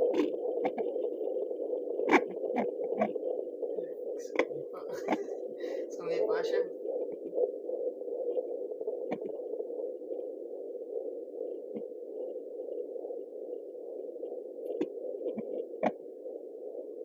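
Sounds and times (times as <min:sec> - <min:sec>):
muffled hiss from doppler speaker: 0:00.0 - 0:17.0.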